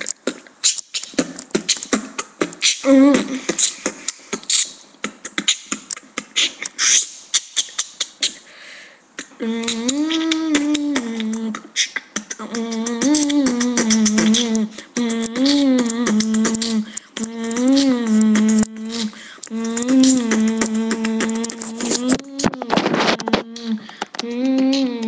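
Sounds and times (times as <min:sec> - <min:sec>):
person humming vocal melody: 0:00.0 - 0:08.4, 0:09.2 - 0:25.0
beatboxing mouth percussion: 0:00.0 - 0:08.5, 0:09.2 - 0:25.0.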